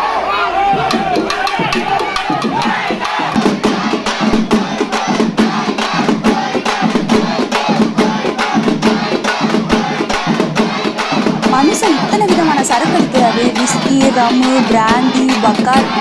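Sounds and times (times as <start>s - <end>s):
crowd shouting: 0.0s - 16.0s
drums beaten fast: 0.5s - 16.0s.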